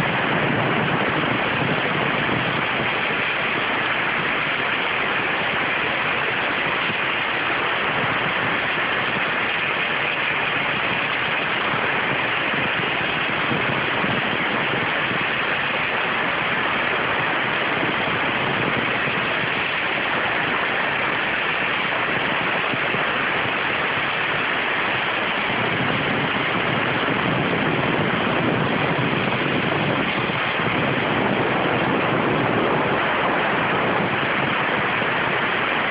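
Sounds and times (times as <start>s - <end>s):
high-pressure water jet hissing: 0.0s - 35.9s
low rumble: 0.0s - 35.9s.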